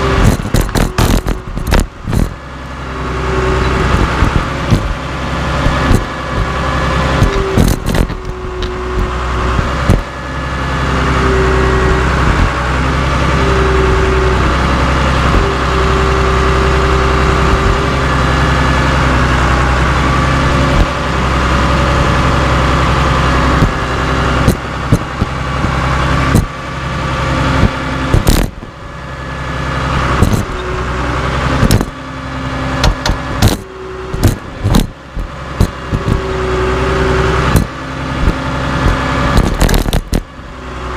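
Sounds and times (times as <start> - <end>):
bulldozer diesel engine running: 0.0 - 40.9
engine whine: 0.0 - 40.9.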